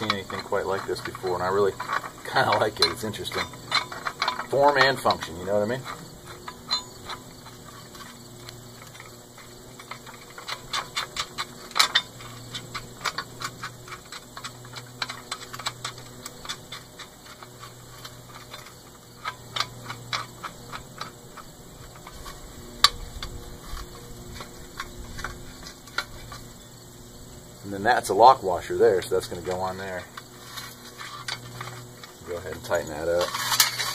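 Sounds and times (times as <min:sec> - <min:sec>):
metallic clicks of nuts and bolts: 0:00.0 - 0:26.8, 0:27.8 - 0:33.9.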